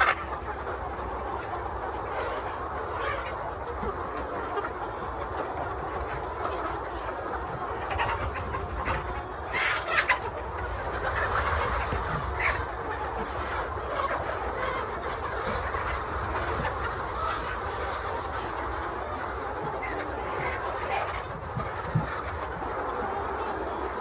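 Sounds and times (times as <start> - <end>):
poultry clucking and calling: 0.0 - 24.0.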